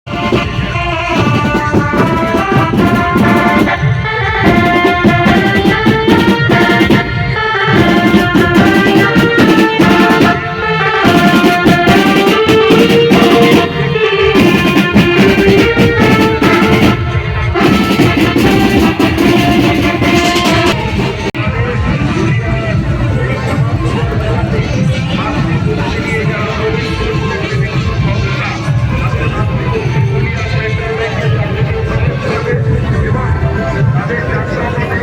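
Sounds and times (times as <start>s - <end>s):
loud music with drums: 0.1s - 35.0s.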